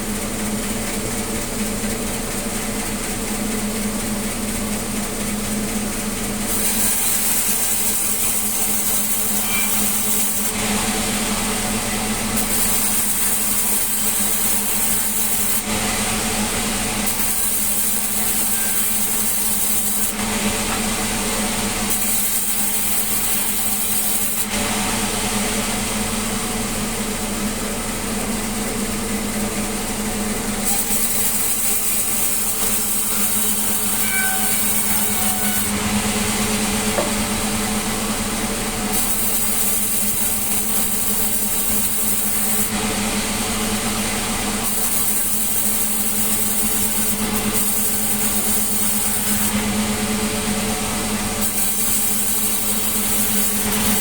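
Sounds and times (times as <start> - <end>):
sawmill saw humming: 0.0 - 54.0.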